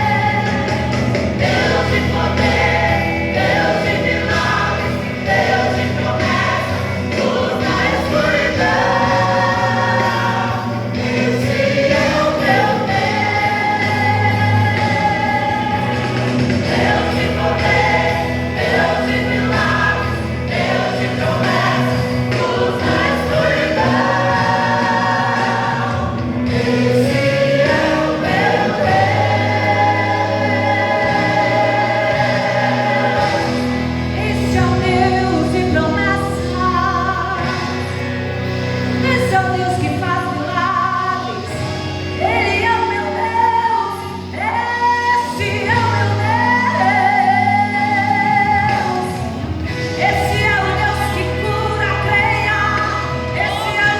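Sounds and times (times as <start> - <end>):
gospel group singing in harmony: 0.0 - 53.9
instrumental backing with bass line: 0.0 - 53.9.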